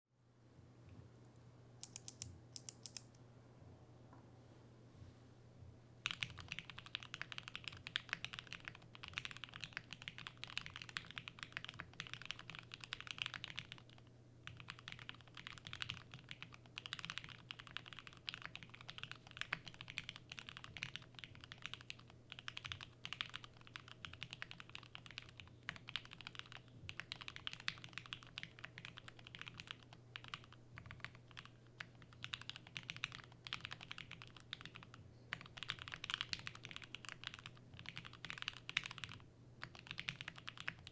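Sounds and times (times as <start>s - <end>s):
faint low hum: 0.1s - 40.9s
fast mechanical keyboard typing: 6.0s - 40.9s.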